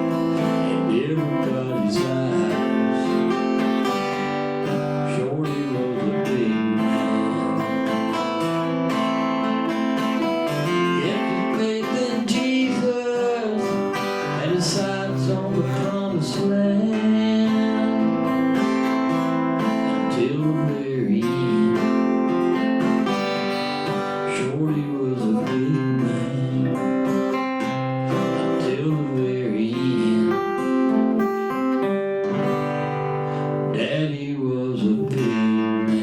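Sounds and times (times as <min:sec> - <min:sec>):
acoustic guitar strummed and picked: 0:00.0 - 0:36.0.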